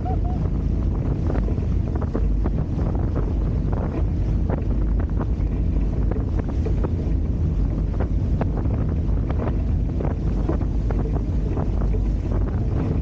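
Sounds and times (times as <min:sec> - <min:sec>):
water slapping against hulls: 0:00.0 - 0:13.0
wind buffeting microphone: 0:00.0 - 0:13.0.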